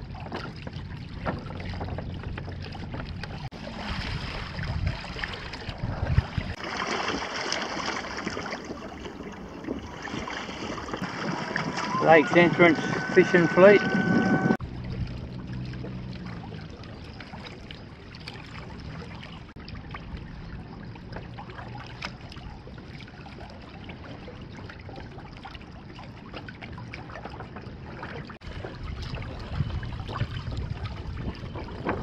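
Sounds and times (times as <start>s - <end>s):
small water splashes: 0.0s - 32.0s
waves lapping against kayak hull: 0.0s - 32.0s.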